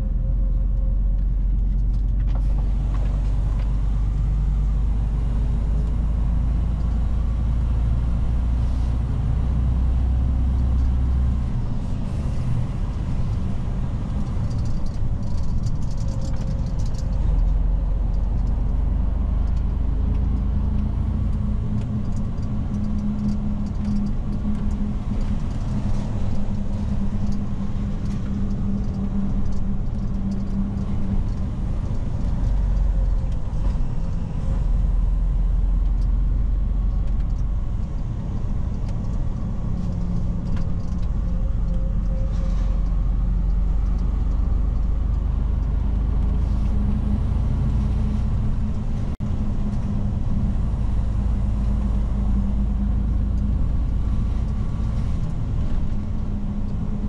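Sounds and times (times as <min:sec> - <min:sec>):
road noise: 0:00.0 - 0:57.0
truck diesel engine drone: 0:00.0 - 0:57.0.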